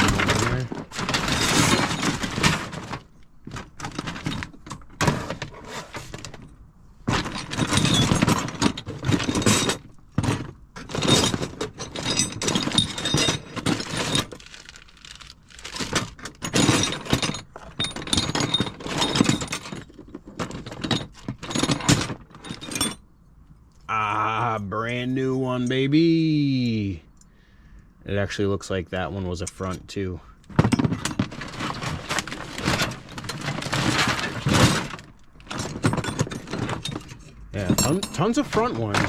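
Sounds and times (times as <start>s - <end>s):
metal parts clanking in a box: 0.0s - 23.8s, 29.4s - 39.0s.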